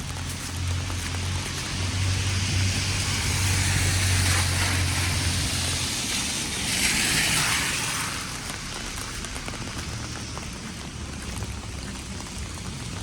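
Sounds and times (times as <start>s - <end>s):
tyre hiss on wet road: 0.0s - 13.0s.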